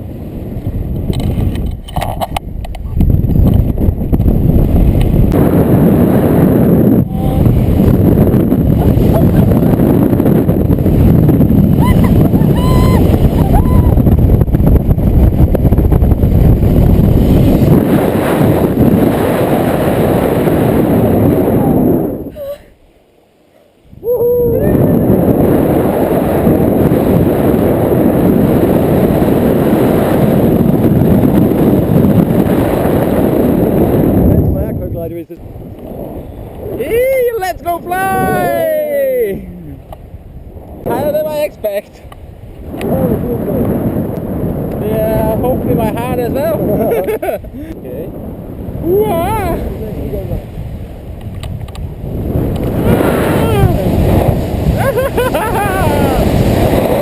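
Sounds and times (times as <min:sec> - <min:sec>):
wind rushing over microphone: 0:00.0 - 0:23.0, 0:23.7 - 0:57.0.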